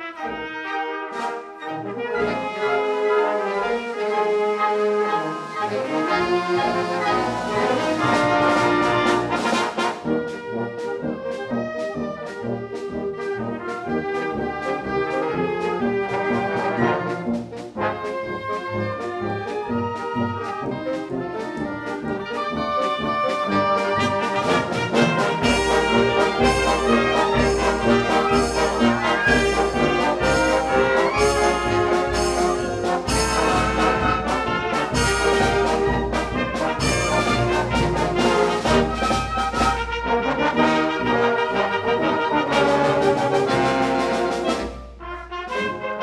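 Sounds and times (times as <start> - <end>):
wind band playing: 0.0 - 46.0.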